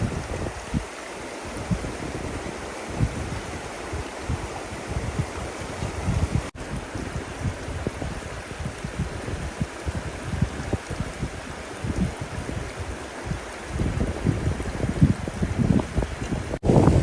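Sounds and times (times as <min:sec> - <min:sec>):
running water: 0:00.0 - 0:17.0
wind buffeting microphone: 0:00.0 - 0:17.0.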